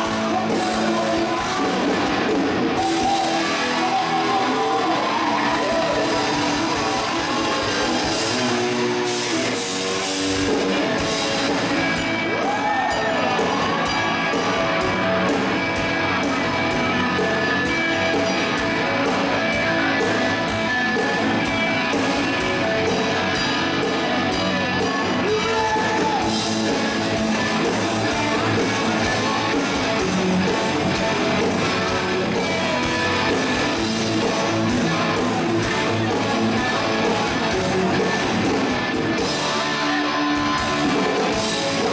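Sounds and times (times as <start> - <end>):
drums: 0.0 - 41.9
electric guitar: 0.0 - 41.9.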